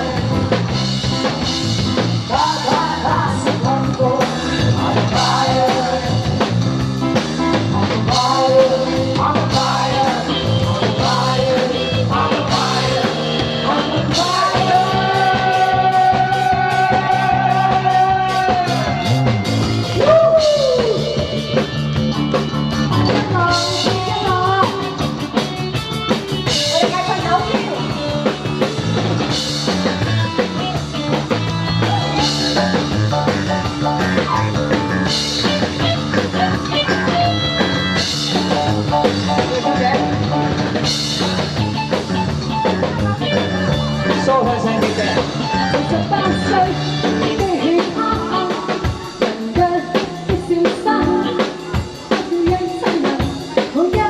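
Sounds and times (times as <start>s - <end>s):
drums: 0.0s - 54.0s
guitar: 0.0s - 54.0s
person singing rock song: 0.0s - 54.0s.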